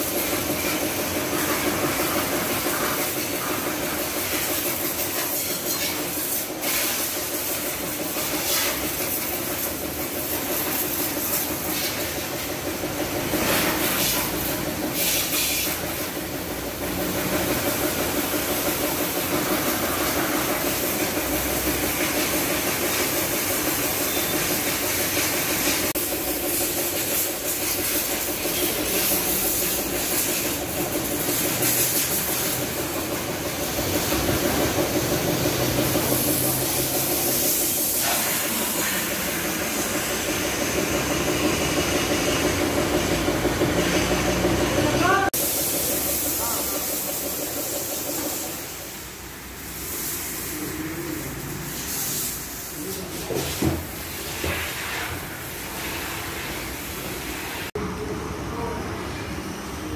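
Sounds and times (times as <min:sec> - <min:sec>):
washer pump humming: 0:00.0 - 0:57.6
pressure washer spray hissing: 0:00.0 - 0:57.7.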